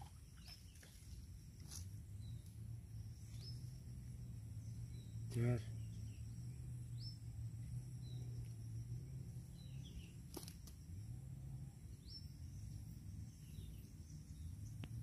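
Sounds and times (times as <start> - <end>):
high insect drone: 0.0 - 15.0
bird chirping: 2.2 - 11.1, 11.7 - 15.0.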